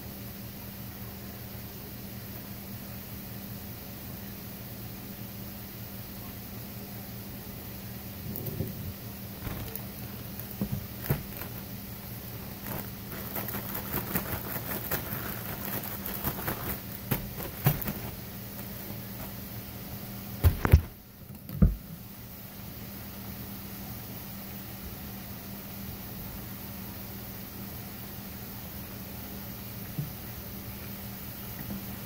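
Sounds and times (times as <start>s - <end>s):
steady hiss and low hum: 0.0s - 32.0s.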